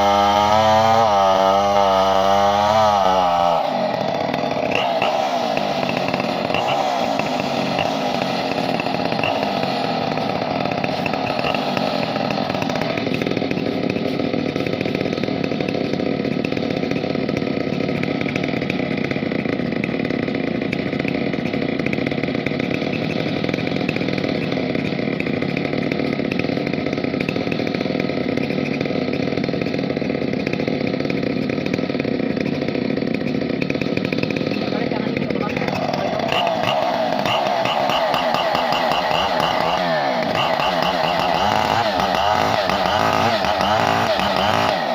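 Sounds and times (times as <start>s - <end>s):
chainsaw running at high speed: 0.0s - 44.9s.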